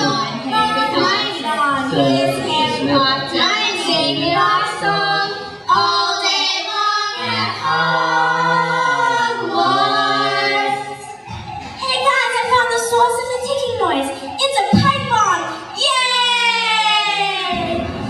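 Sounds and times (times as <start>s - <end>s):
children singing a cappella: 0.0s - 15.8s.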